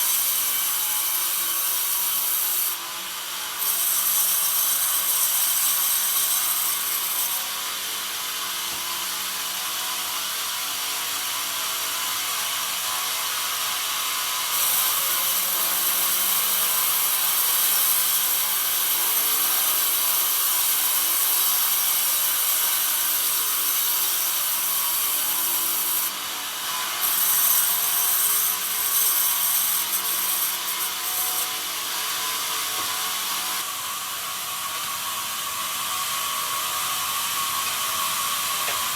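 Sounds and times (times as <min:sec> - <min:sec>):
band saw cutting wood: 0:00.0 - 0:10.1, 0:12.0 - 0:38.9.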